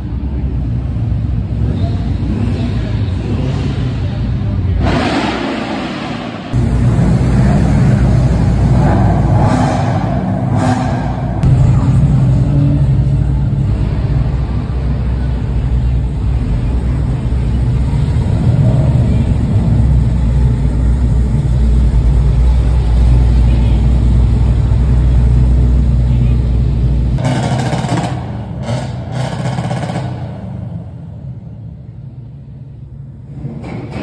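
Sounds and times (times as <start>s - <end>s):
car engines and exhaust rumbling: 0.0s - 34.0s.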